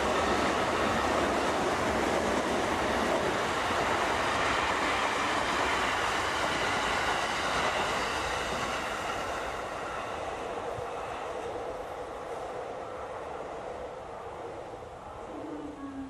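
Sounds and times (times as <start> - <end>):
electric train running on rails: 0.0 - 16.0.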